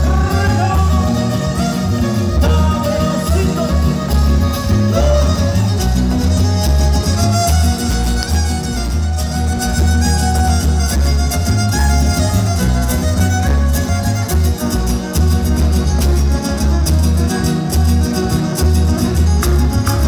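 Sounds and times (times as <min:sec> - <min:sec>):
fiddle melody: 0:00.0 - 0:20.0
pulsing bass: 0:00.0 - 0:20.0
strummed guitars: 0:00.0 - 0:20.0.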